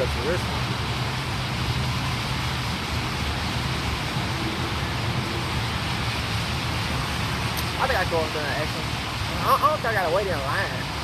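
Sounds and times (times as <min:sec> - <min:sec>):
motor vehicle running: 0:00.0 - 0:11.0.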